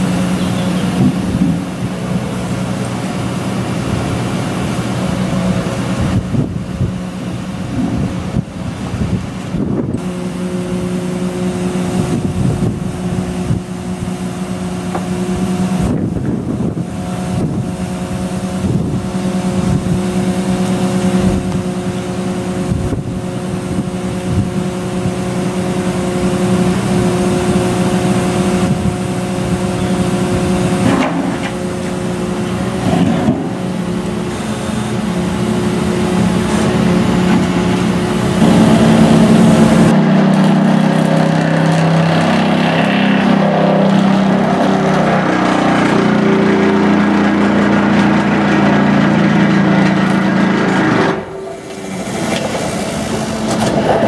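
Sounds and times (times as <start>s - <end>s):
excavator engine and hydraulics: 0.0s - 54.0s.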